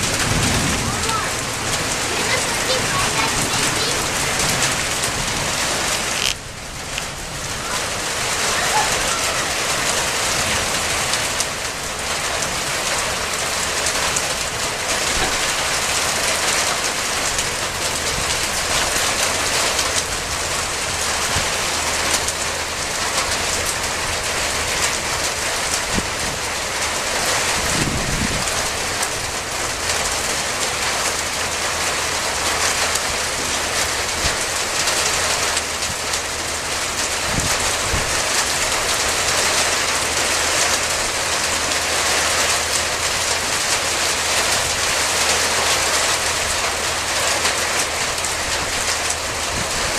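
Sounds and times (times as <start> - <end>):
rain hissing: 0.0 - 49.9.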